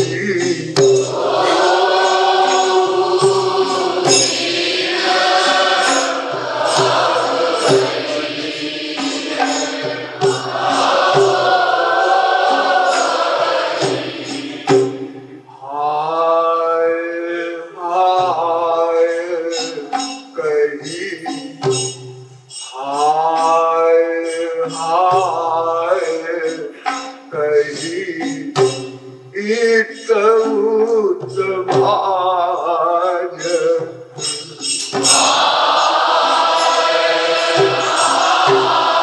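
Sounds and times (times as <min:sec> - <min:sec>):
man singing with vibrato: 0:00.0 - 0:39.0.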